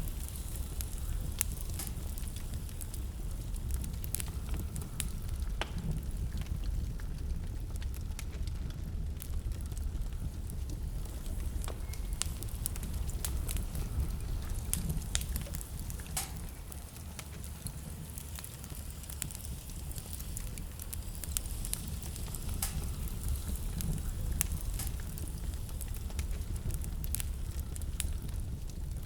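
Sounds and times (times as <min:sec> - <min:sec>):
blizzard wind rumble: 0:00.0 - 0:29.0
wood fire crackling and popping: 0:00.0 - 0:29.0.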